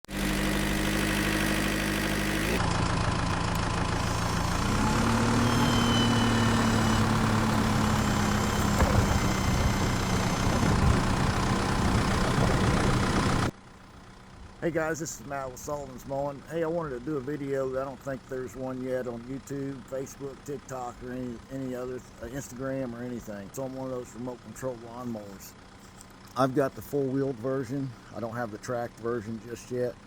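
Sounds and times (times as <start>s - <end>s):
lawnmower engine running: 0.0s - 30.0s.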